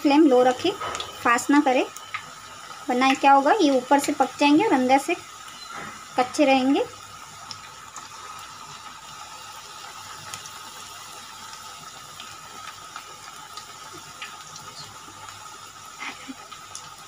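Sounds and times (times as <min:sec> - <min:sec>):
food deep-frying in hot oil: 0:00.0 - 0:17.0
oil crackling and popping: 0:00.0 - 0:17.0.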